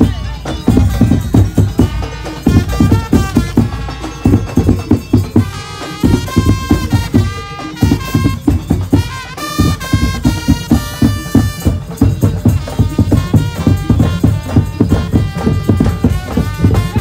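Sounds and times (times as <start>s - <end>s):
fast drum and percussion: 0.0s - 17.0s.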